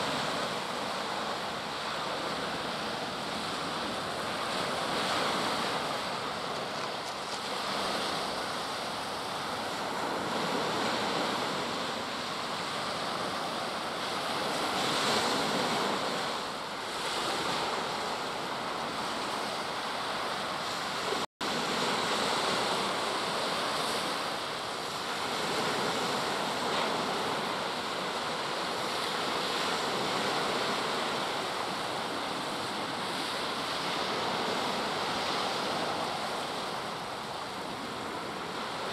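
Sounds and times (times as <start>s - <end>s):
sea waves washing on beach: 0.0s - 38.9s
wind on microphone: 0.0s - 38.9s.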